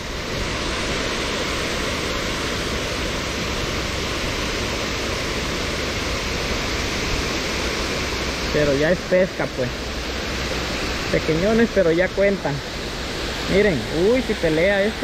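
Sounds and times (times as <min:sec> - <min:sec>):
rush of falling water: 0:00.0 - 0:15.0.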